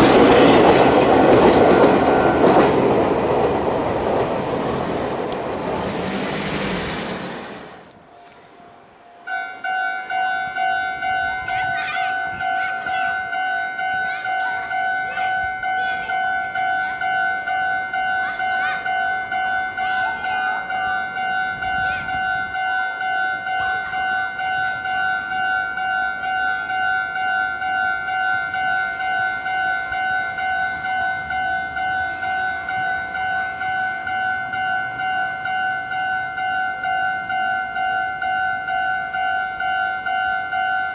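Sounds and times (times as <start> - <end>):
level crossing warning bell: 0.9 - 7.9, 8.7 - 40.9.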